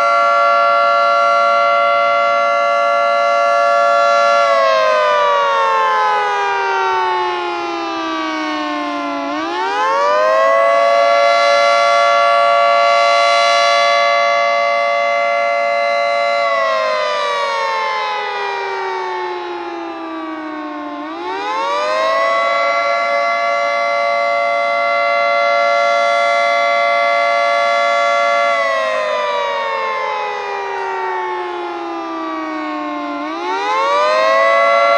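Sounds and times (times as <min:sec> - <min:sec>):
warning siren wailing: 0:00.0 - 0:34.9.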